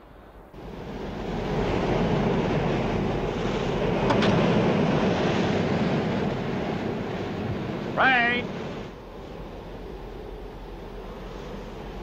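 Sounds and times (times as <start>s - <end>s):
sea rushing: 0.0s - 12.0s
wind: 0.0s - 12.0s.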